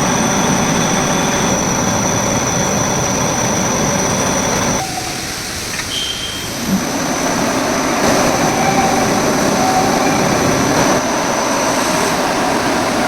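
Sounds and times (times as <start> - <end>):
milling machine with high whine: 0.0 - 13.0.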